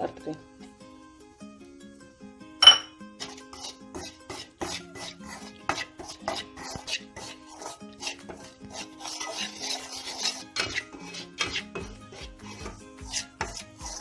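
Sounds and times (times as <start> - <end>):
background music: 0.0 - 14.0
steel spoon scraping metal pan: 2.6 - 14.0.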